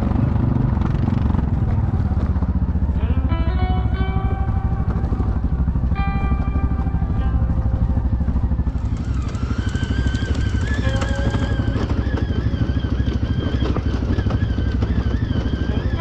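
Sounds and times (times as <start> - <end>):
atv engine running: 0.0 - 16.0
thin wavering high tone: 2.7 - 16.0.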